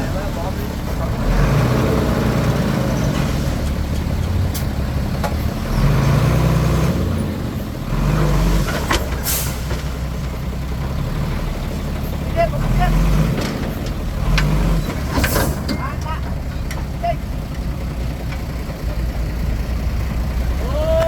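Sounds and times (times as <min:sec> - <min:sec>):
bulldozer diesel engine working: 0:00.0 - 0:21.0.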